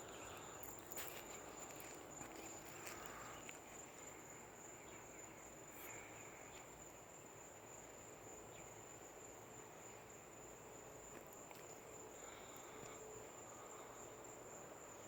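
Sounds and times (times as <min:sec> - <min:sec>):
insect trill: 0:00.0 - 0:15.0.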